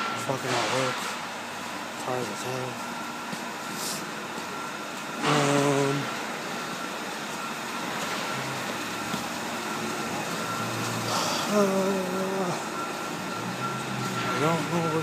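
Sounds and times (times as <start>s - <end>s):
mechanical background noise: 0.0s - 15.0s.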